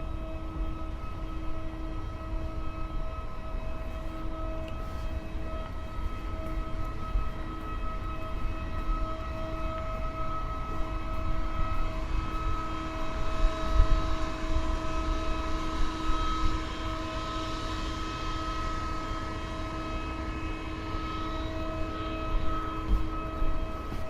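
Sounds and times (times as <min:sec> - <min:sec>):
distant jet aircraft whine: 0:00.0 - 0:24.0.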